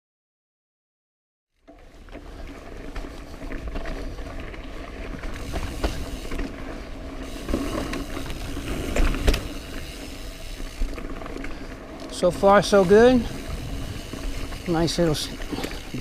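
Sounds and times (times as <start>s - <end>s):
bike tyres rolling on dirt: 1.5s - 16.0s
bike rattling: 1.6s - 16.0s.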